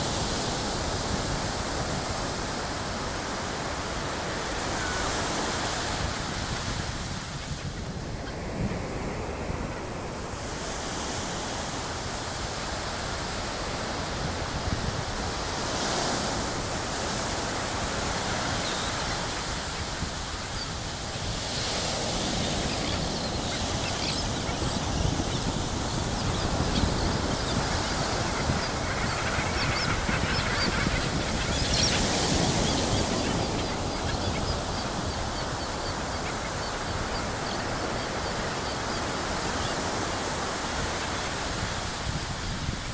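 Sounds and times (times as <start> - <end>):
seabirds calling: 0.1 - 42.8.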